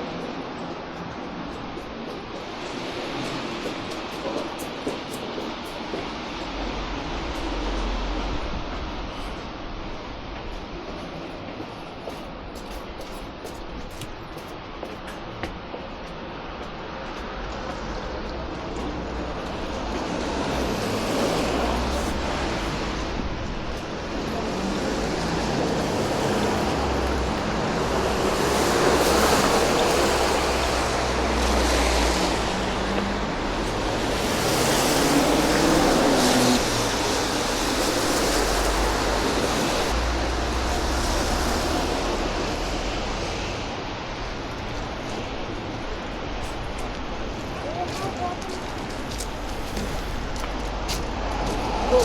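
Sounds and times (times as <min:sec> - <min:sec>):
road traffic noise: 0:00.0 - 0:52.0
vehicles passing: 0:00.0 - 0:52.0.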